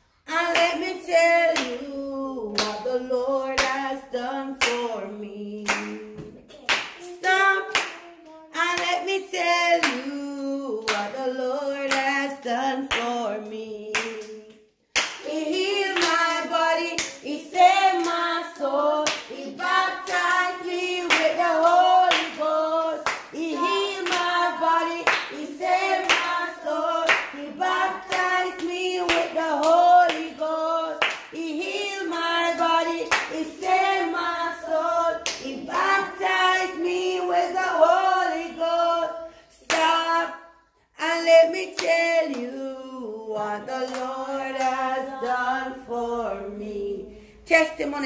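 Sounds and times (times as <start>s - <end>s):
children singing gospel chorus: 0.2s - 14.1s, 15.1s - 47.6s.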